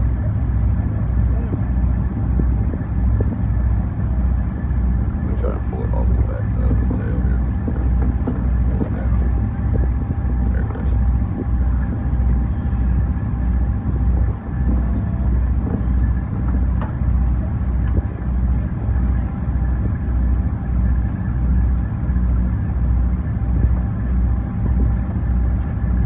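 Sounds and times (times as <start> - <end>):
engine running with low throb: 0.0 - 26.0.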